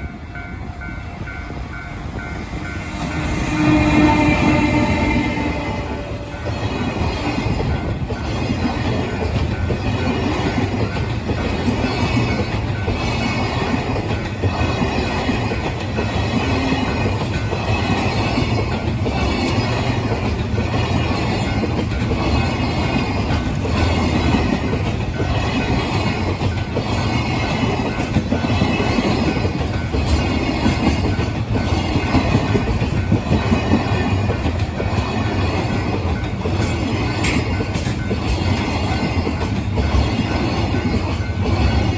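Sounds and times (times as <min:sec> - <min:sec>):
train wheels clattering over rail joints: 0:01.2 - 0:41.9.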